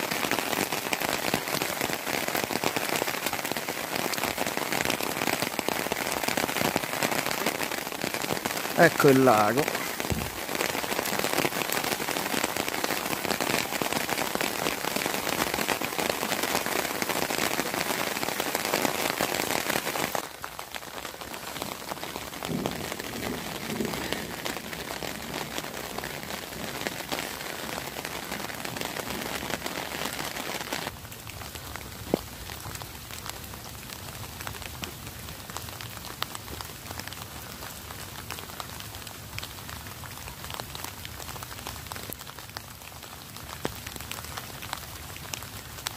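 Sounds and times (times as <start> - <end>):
rain falling on water: 0.0 - 45.9.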